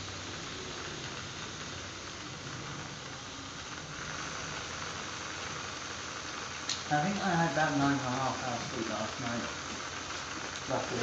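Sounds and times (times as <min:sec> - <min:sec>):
model train motors whirring: 0:00.0 - 0:11.0.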